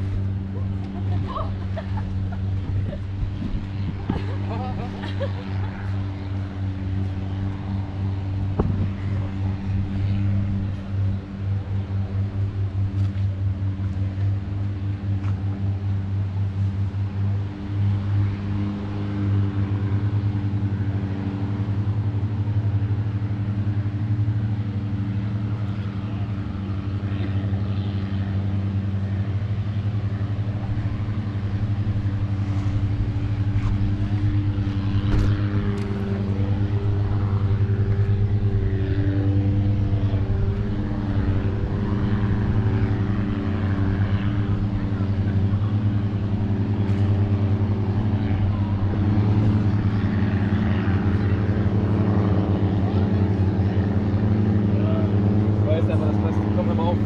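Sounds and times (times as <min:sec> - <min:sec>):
engine droning at low revs: 0:00.0 - 0:57.0.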